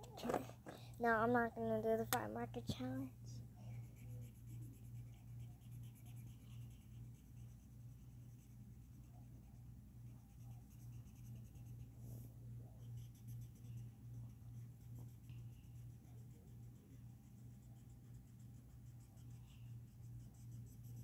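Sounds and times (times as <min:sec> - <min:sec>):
felt-tip marker scratching on paper: 0:03.6 - 0:21.0.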